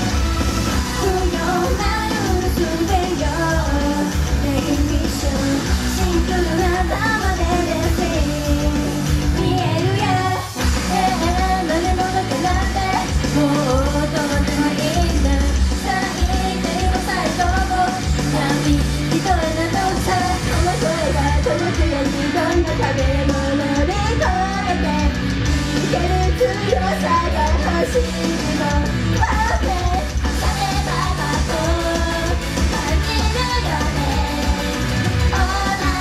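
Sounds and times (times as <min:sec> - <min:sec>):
loud rock music: 0:00.0 - 0:36.0
female voices singing: 0:00.7 - 0:25.2, 0:25.8 - 0:36.0.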